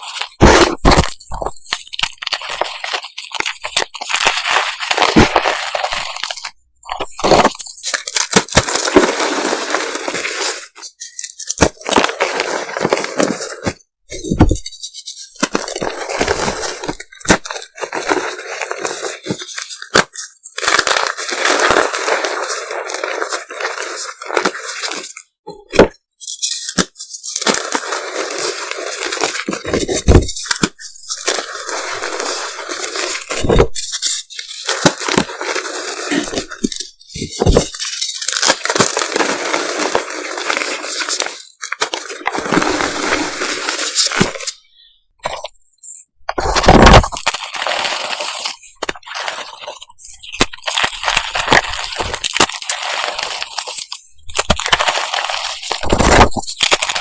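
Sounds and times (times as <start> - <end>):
chalk crunching: 0.0 - 25.2, 26.5 - 45.7, 46.4 - 57.0.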